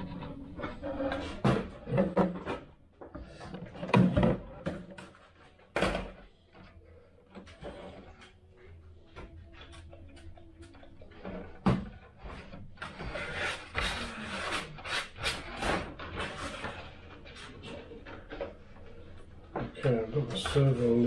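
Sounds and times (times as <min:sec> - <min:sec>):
scraping and rustling: 0:00.0 - 0:21.0.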